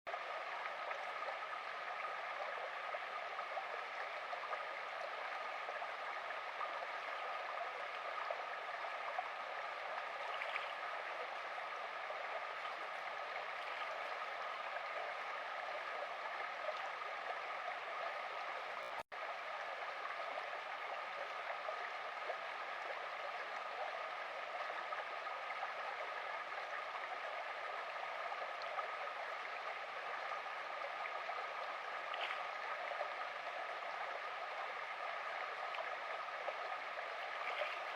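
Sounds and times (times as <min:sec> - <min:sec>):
stream water rushing and gurgling: 0:00.1 - 0:37.9.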